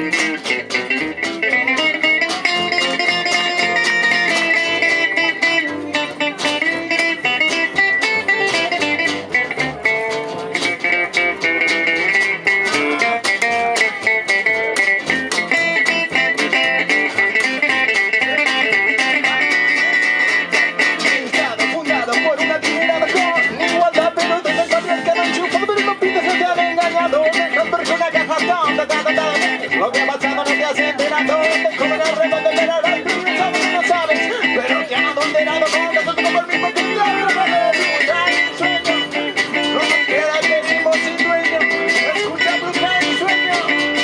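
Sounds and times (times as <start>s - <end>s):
acoustic guitar strumming: 0.0s - 44.0s
jazz band playing: 0.0s - 44.0s.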